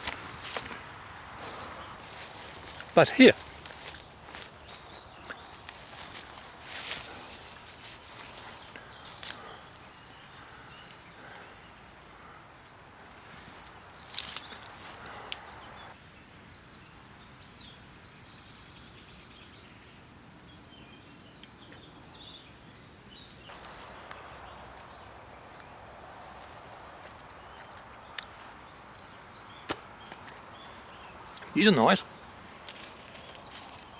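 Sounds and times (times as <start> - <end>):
outdoor background noise: 0.0 - 33.9
small birds chirping: 0.0 - 33.9.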